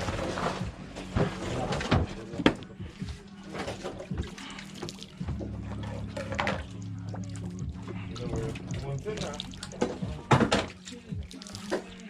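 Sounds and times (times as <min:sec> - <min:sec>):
low hum: 0:00.0 - 0:11.3
water splashing and sloshing: 0:00.0 - 0:12.0.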